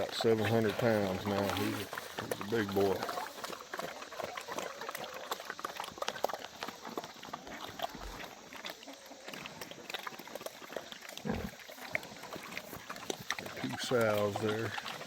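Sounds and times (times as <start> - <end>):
pigs chewing and crunching: 0.0 - 15.0.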